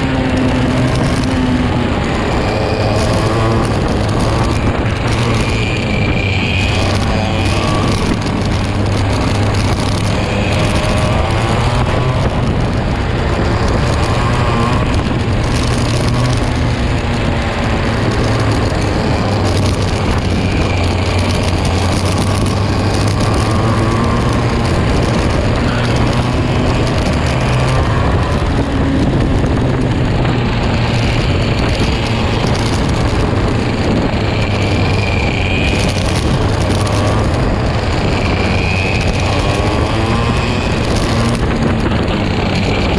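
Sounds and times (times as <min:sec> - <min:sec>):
kart engine accelerating: 0:00.0 - 0:42.9
other karts running: 0:00.0 - 0:42.9.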